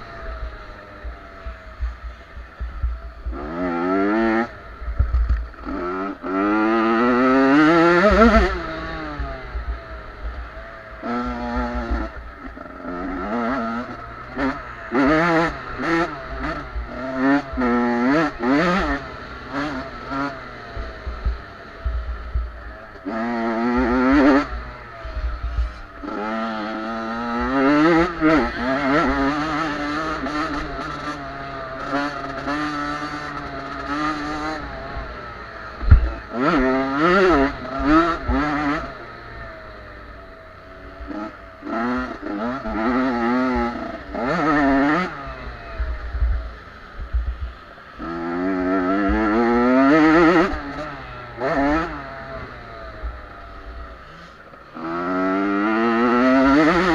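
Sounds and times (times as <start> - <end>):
motocross bikes revving past: 0.0 - 56.9.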